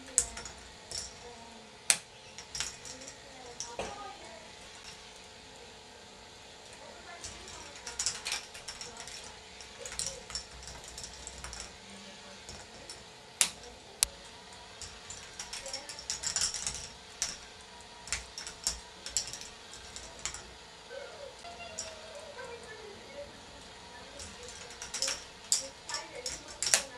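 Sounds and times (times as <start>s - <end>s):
plastic balls clattering on track: 0.0s - 5.2s, 6.8s - 20.6s, 21.4s - 26.9s.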